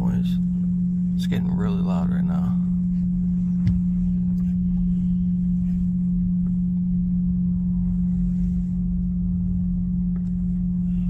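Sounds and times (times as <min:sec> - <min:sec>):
engine idling rumble: 0:00.0 - 0:11.0
loud steady engine hum: 0:00.0 - 0:11.0.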